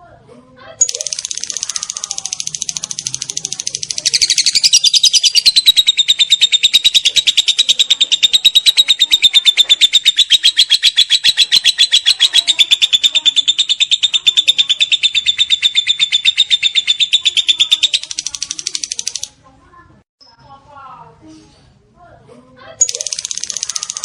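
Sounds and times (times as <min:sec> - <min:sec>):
lovebird high-pitched chatter: 0:00.8 - 0:19.4, 0:22.8 - 0:24.0.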